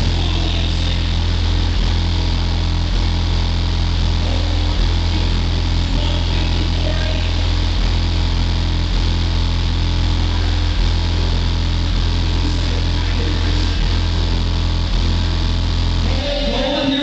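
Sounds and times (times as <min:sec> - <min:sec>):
deep bass drone from subwoofers: 0:00.0 - 0:17.0.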